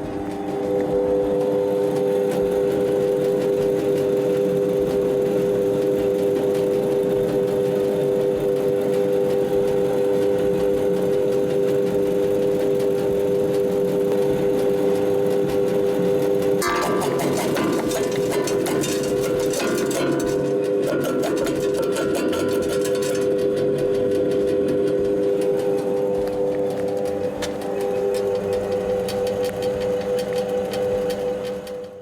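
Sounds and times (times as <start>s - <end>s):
jaw crusher running: 0.0s - 32.0s.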